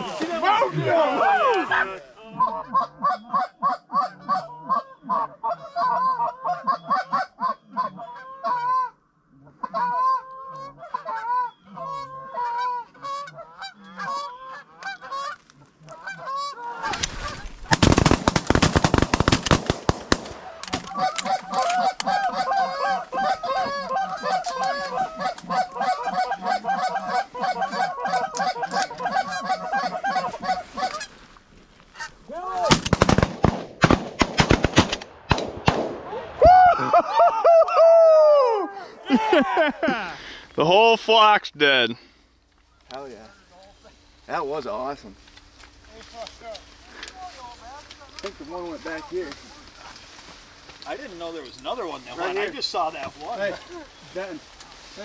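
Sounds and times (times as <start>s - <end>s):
geese honking: 0.0s - 32.7s, 42.6s - 55.0s.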